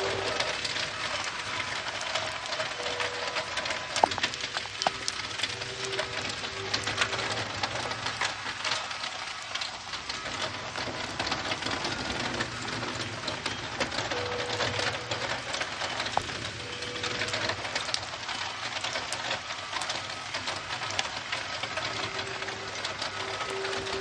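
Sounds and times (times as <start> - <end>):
rain and hail tapping on drum: 0.0 - 24.0.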